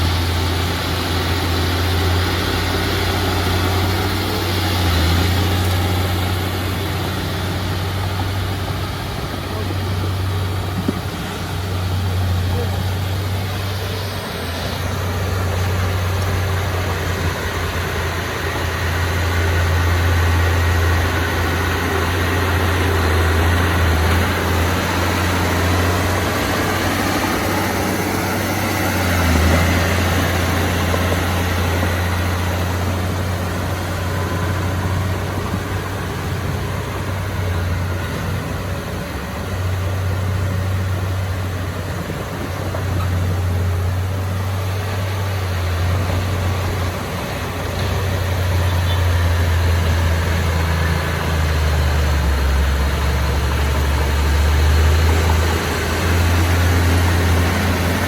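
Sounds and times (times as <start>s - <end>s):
bulldozer diesel engine drone: 0.0s - 58.0s.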